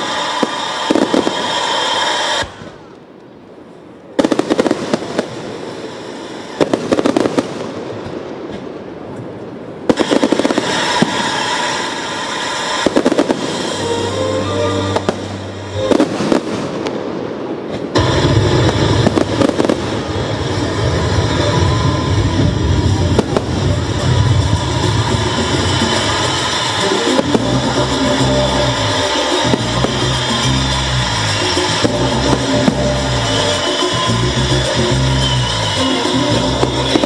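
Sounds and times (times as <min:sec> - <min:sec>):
fireworks bursting: 0:00.0 - 0:37.0.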